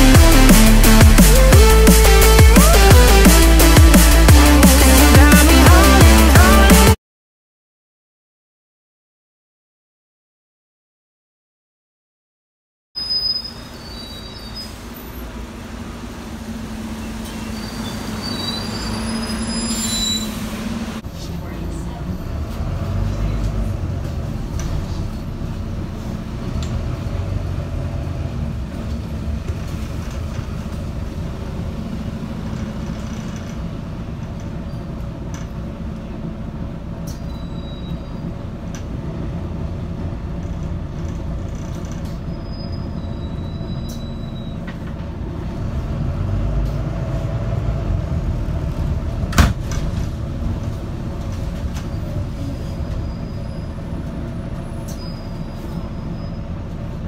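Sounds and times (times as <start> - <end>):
bus diesel engine running: 0.0 - 7.0, 13.0 - 57.0
road rumble: 0.0 - 7.0, 13.0 - 57.0.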